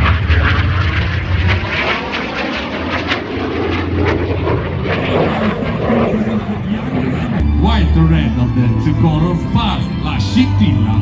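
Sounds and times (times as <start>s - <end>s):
jet engine roaring overhead: 0.0s - 11.0s.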